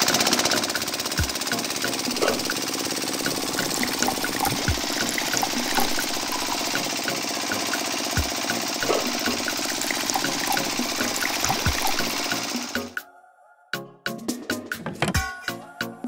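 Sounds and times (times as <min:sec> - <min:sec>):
small motor chugging: 0:00.0 - 0:13.0.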